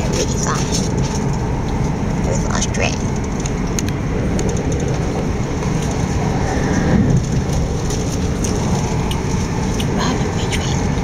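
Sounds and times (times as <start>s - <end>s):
electric train running at speed: 0.0s - 11.0s.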